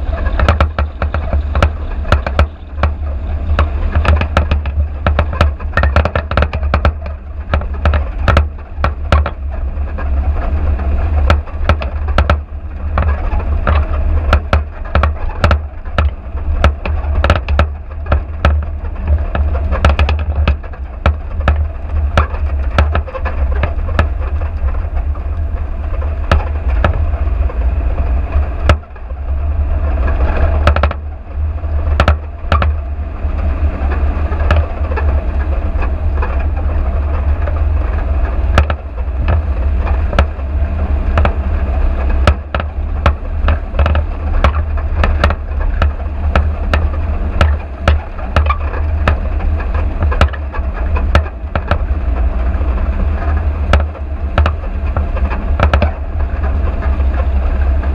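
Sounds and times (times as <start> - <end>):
knocks and rattles over bumps: 0.0 - 57.9
vehicle rumbling on dirt track: 0.0 - 57.9.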